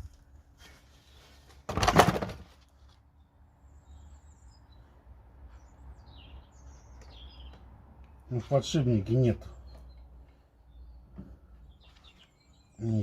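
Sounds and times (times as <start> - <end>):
faint birds chirping: 0.0 - 1.6, 2.7 - 13.0.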